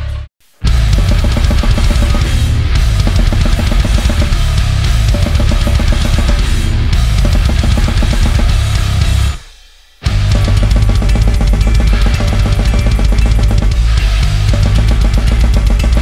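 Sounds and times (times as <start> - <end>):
drum kit played fast and hard: 0.0 - 16.0.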